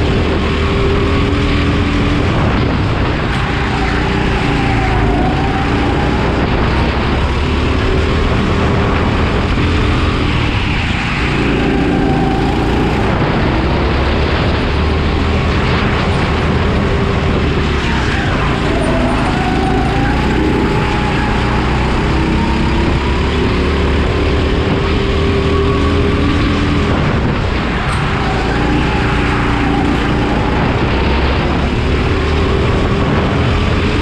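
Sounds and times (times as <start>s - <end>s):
kart engine revving: 0.0s - 34.0s.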